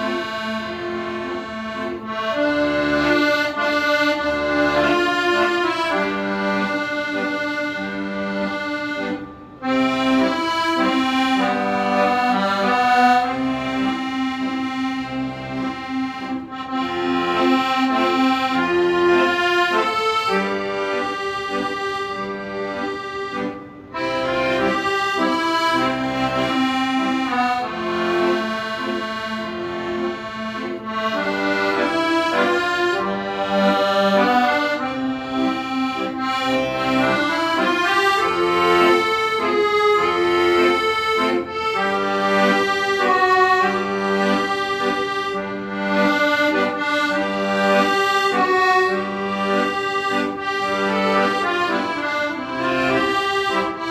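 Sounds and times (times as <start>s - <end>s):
accordion playing: 0.0s - 53.9s.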